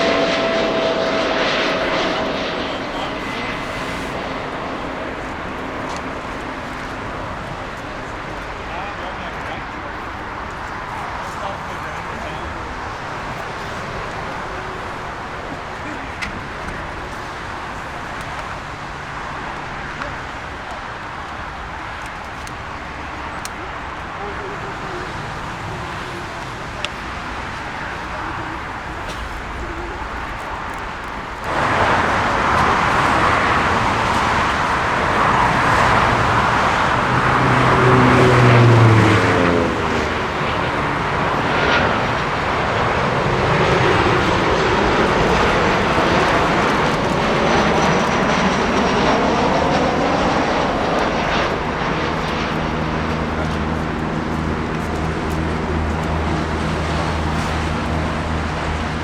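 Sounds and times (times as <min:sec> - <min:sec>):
falling engine whine: 0:00.0 - 0:59.0
jet airliner engines roaring: 0:00.0 - 0:59.0.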